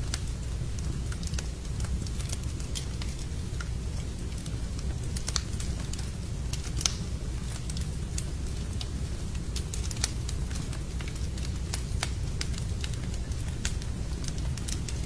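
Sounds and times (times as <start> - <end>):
low rumble of fire: 0.0 - 15.0
wood fire crackling: 0.0 - 15.0.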